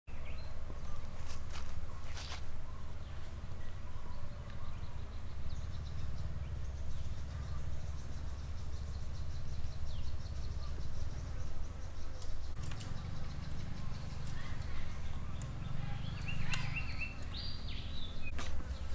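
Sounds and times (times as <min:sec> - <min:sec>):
high bird calls: 0:00.1 - 0:18.9.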